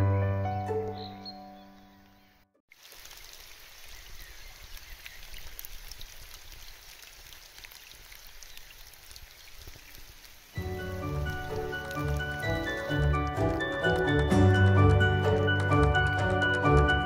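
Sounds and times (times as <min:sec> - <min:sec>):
rain splashing on water: 0:02.7 - 0:16.9.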